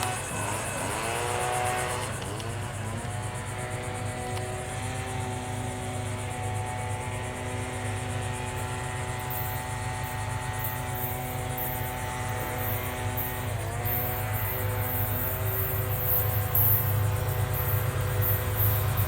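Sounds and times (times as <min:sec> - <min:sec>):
engine drone with held tones: 0:00.0 - 0:19.0.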